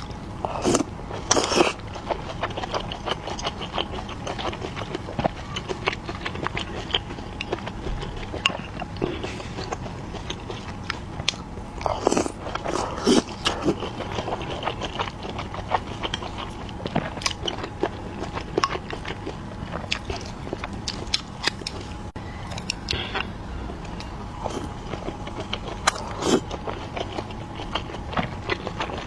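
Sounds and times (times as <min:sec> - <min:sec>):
biting and chewing dumpling: 0:00.0 - 0:29.0.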